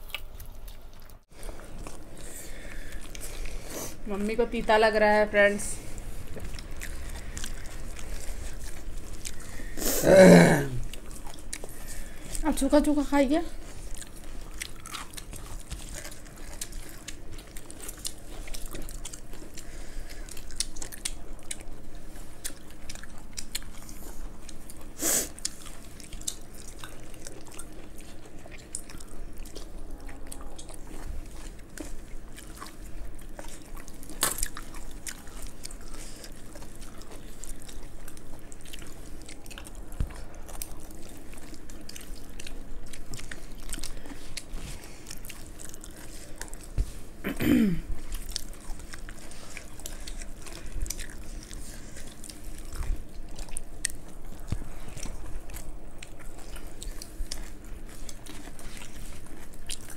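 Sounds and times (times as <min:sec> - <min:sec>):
people chewing and eating: 0:00.0 - 0:59.9.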